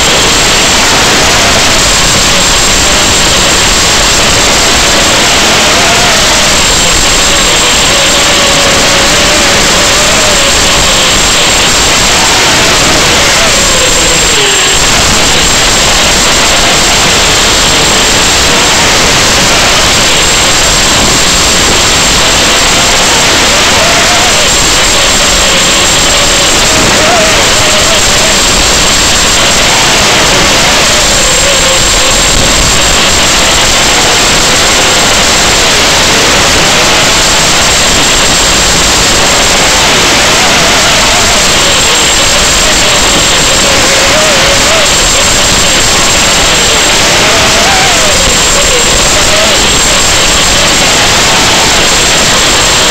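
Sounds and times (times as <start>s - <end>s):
faint wavering whine: 0.0s - 52.9s
loud static hiss: 0.0s - 52.9s.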